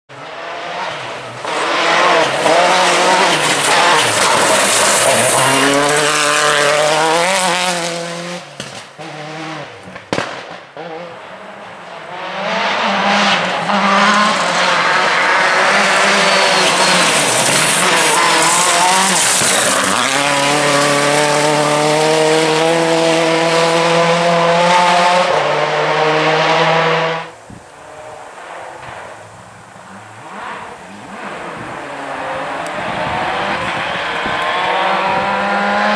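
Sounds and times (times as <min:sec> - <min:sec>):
rally car engine revving: 0:00.1 - 0:35.9.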